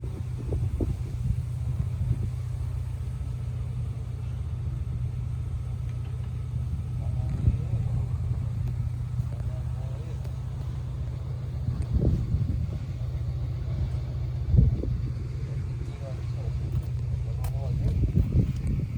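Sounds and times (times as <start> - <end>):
moped engine idling: 0.0 - 18.9.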